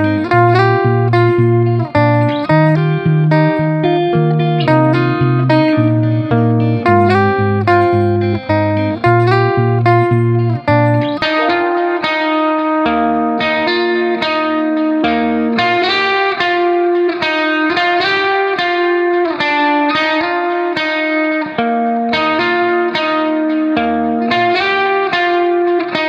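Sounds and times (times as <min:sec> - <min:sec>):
plucked guitar melody: 0:00.0 - 0:26.0.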